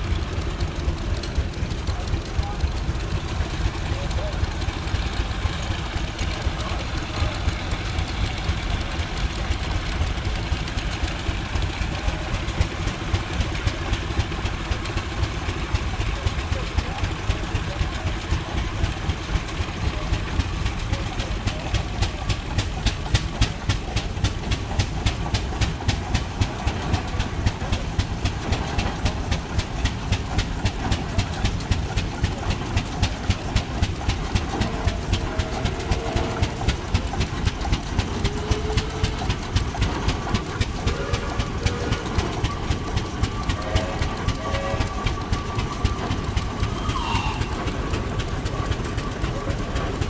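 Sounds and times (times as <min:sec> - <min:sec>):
tractor engine popping exhaust: 0:00.0 - 0:50.0.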